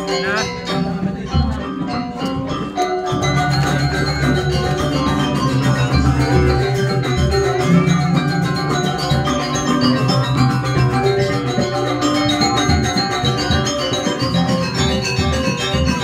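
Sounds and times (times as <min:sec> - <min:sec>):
gamelan metallophones ringing: 0:00.0 - 0:16.0.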